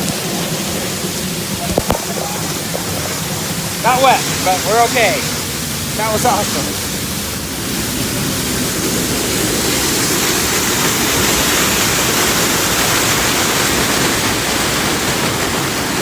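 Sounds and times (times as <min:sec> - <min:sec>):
waterfall pouring and splashing: 0:00.0 - 0:16.0.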